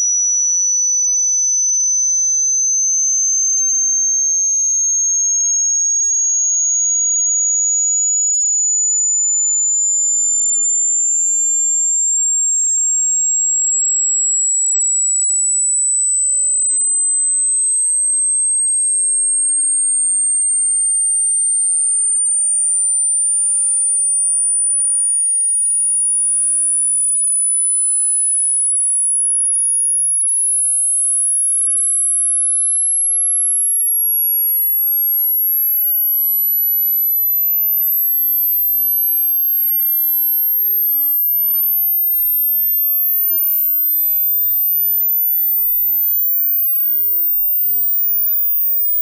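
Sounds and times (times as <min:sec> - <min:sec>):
high sine test tone: 0:00.0 - 0:49.0.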